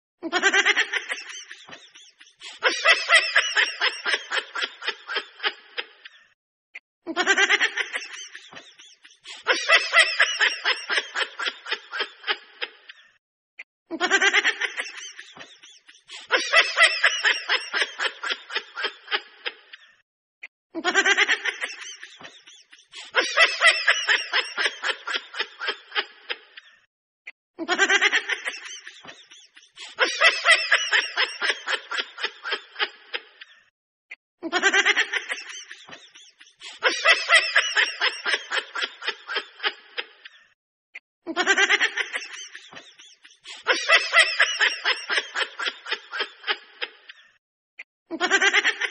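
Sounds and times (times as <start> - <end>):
recorded laugh: 0.2 - 6.4, 7.0 - 13.2, 13.9 - 20.0, 20.7 - 26.9, 27.6 - 33.7, 34.4 - 40.6, 41.2 - 47.4, 48.1 - 48.9.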